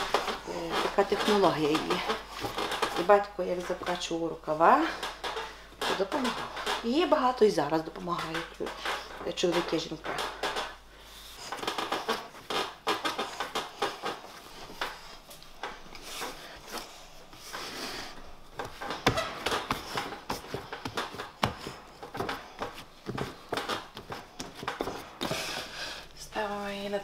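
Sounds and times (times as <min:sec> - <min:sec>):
hands kneading dough: 0:00.0 - 0:27.0.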